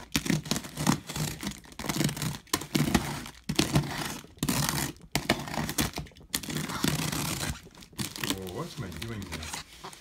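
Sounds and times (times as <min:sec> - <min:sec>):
box cutter slicing tape and cardboard: 0:00.0 - 0:08.5.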